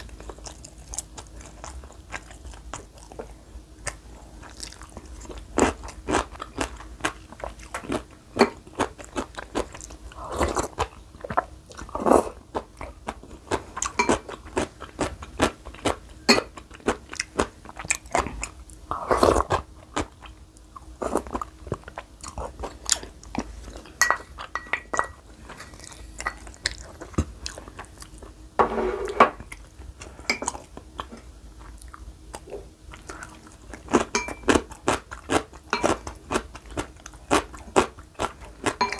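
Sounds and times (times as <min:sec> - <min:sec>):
crunching and chewing: 0:00.0 - 0:28.4, 0:29.4 - 0:38.9.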